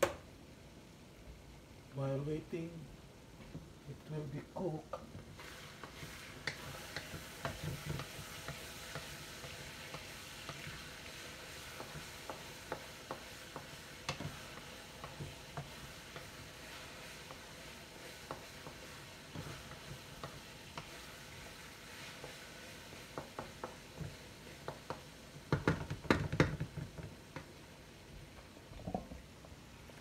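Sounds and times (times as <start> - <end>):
chicken sizzling in a pan: 3.9 - 30.0.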